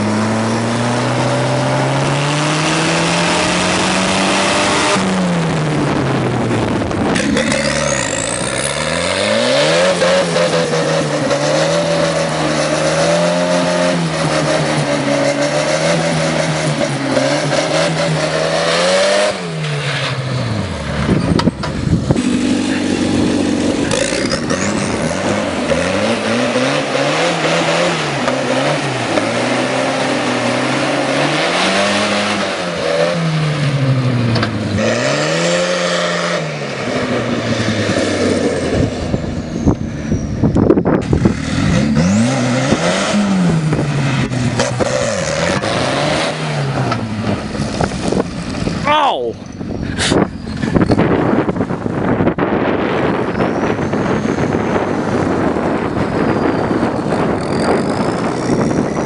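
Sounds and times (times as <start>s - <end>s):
tractor engine revving: 0.0s - 59.0s.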